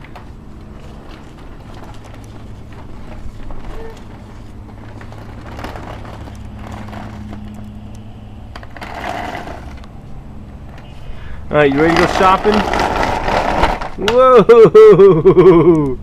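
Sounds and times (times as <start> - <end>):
plastic wheels rolling over ground: 0.0 - 14.4.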